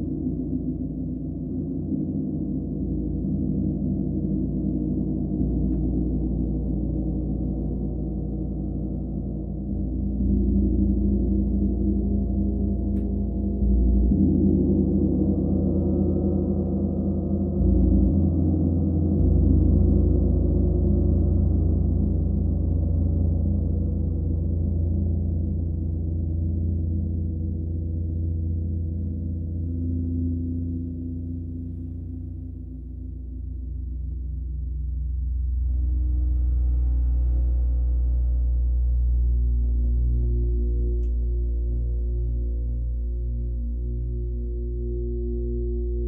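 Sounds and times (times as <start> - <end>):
gong drone: 0.0 - 46.0.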